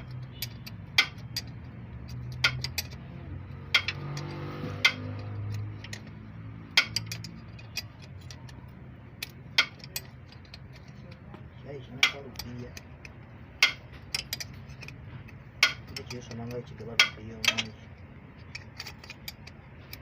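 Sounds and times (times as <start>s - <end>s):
hand tools clinking on metal: 0.0s - 20.0s.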